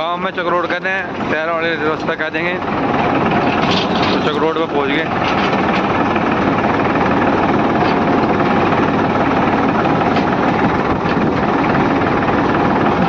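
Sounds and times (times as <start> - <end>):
tractor diesel engine chugging: 0.0 - 13.0.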